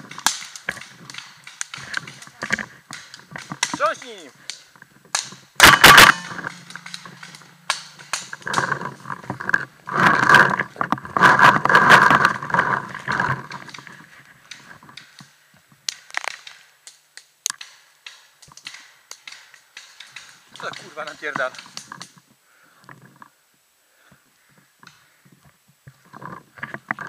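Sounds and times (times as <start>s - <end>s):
sharp clicks and cracks: 0.0s - 22.2s.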